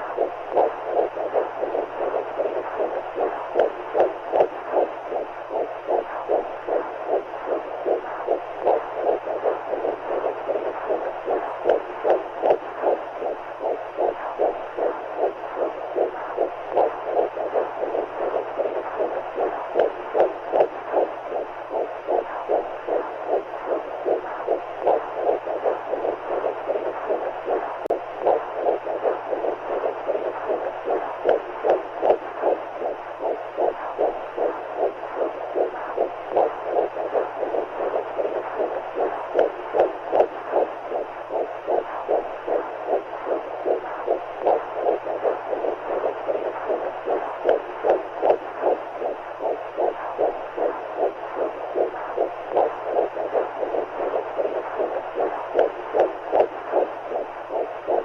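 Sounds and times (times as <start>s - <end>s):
heartbeats pulsing: 0.0s - 58.0s
low hum: 0.0s - 58.0s.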